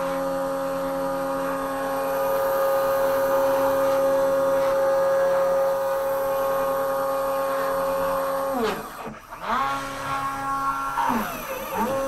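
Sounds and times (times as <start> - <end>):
router spindle motor whining: 0.0 - 12.0.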